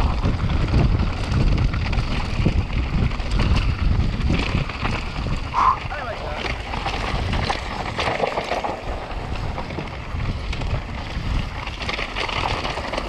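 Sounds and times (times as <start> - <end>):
bike rattling and knocking: 0.0 - 13.0
wind buffeting microphone: 0.0 - 13.0.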